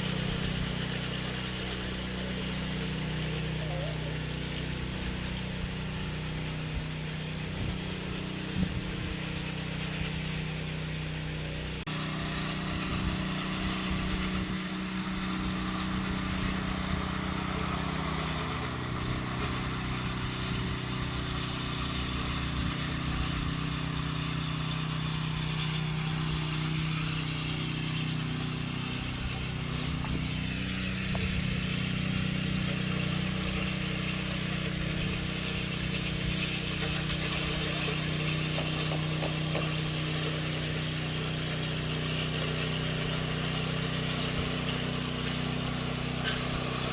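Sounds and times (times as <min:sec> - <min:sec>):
machine engine running steadily: 0:00.0 - 0:46.9.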